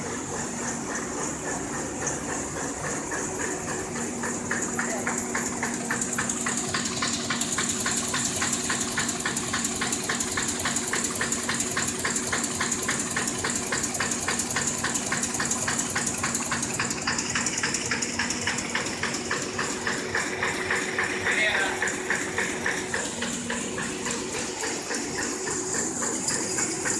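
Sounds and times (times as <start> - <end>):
printing machine clicking: 0.0 - 26.9.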